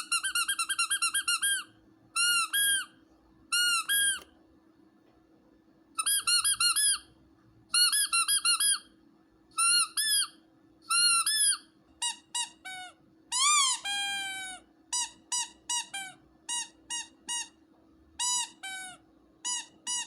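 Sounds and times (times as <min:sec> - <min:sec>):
squeaky rubber dog toy: 0:00.0 - 0:04.3, 0:06.0 - 0:17.6, 0:18.2 - 0:20.0.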